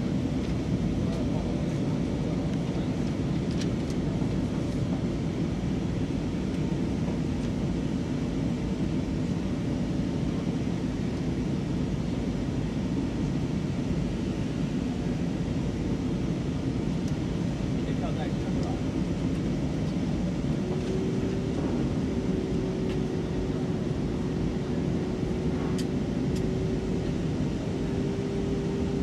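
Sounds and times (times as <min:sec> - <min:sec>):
jet engines droning: 0:00.0 - 0:29.0
rush of airflow in cabin: 0:00.0 - 0:29.0.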